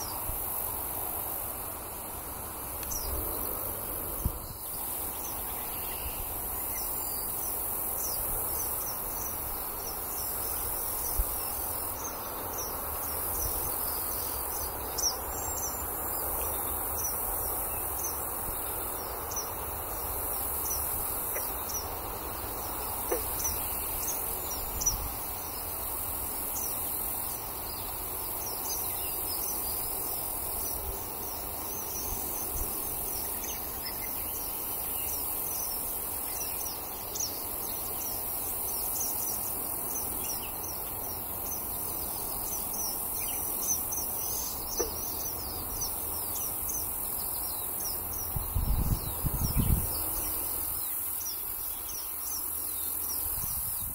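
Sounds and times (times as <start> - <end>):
insects droning: 0.0 - 53.9
birds chirping: 2.8 - 53.9.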